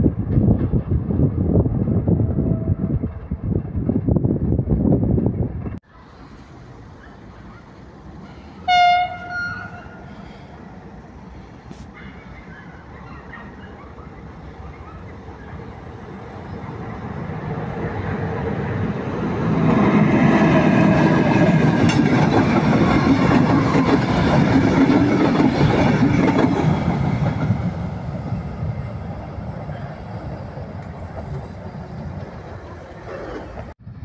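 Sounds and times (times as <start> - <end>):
electric train passing: 0.0 - 34.0.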